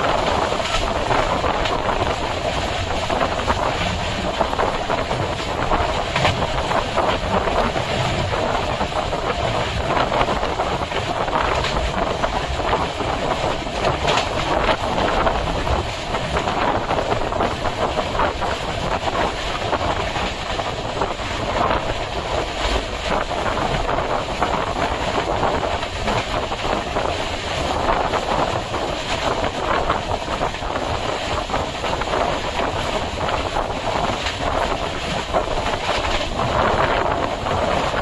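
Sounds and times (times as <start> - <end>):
train wheel and track noise: 0.0 - 38.0
wind noise: 0.0 - 38.0.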